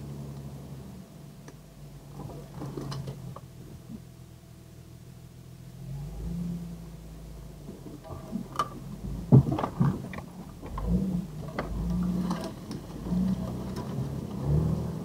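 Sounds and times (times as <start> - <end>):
off-road vehicle engine at low revs: 0.0 - 15.0.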